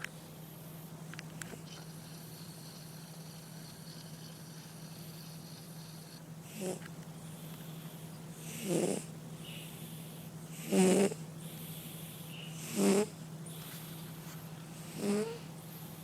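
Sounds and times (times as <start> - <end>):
cat snoring: 1.7 - 6.8, 7.4 - 14.1, 14.8 - 16.0.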